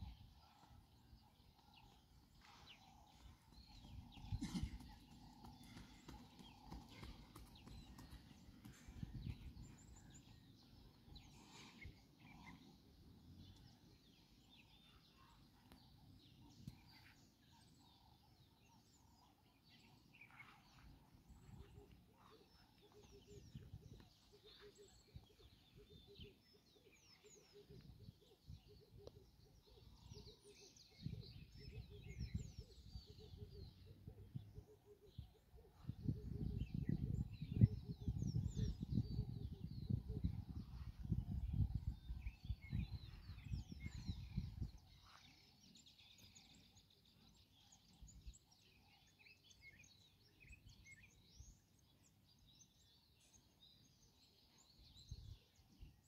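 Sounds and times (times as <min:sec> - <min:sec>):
faint bird chirps: 0:00.0 - 0:56.0.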